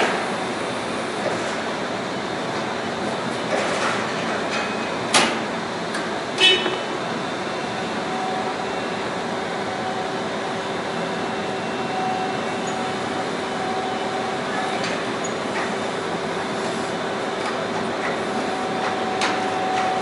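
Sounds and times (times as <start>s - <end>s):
forklift engine drone: 0.0s - 20.0s.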